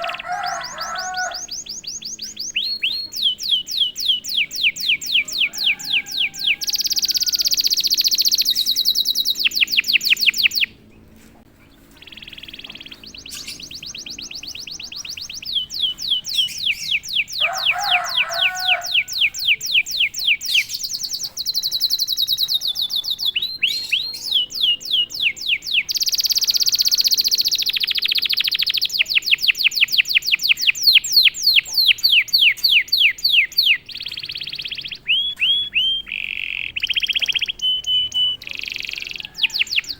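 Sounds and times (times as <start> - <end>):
canary singing fast trills: 0.0 - 10.9, 11.7 - 39.9.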